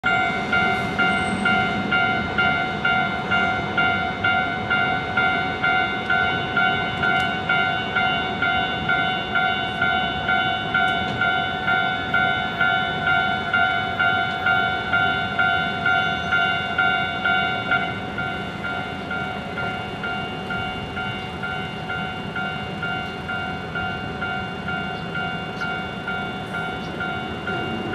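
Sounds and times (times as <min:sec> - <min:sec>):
crossing warning bell ringing: 0:00.0 - 0:27.9.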